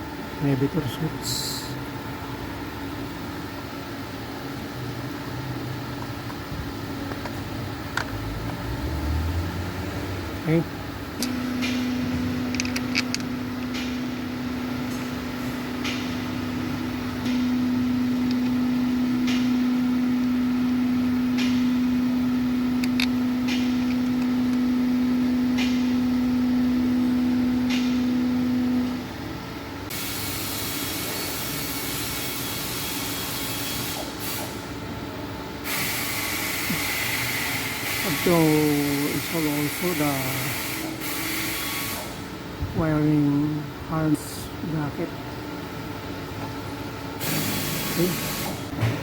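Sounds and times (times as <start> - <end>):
steady low hum: 0.0 - 41.2, 42.0 - 49.0.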